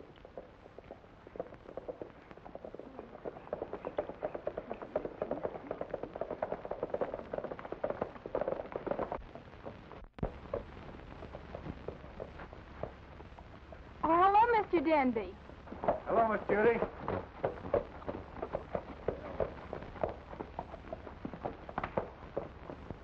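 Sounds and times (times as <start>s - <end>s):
hoof knocks: 0.0s - 13.0s, 15.7s - 23.0s
horses galloping hoofbeats: 0.0s - 23.0s.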